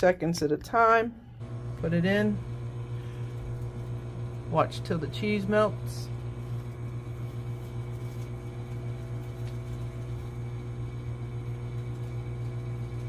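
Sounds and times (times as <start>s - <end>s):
microwave oven humming: 0.8s - 13.0s.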